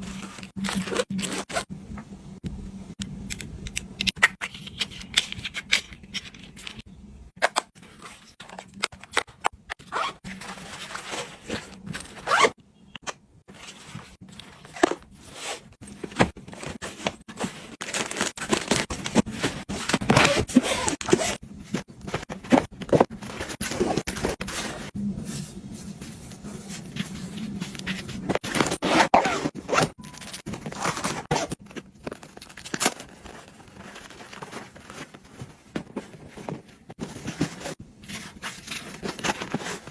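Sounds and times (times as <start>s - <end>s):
crinkling and rustling: 3.2s - 39.9s.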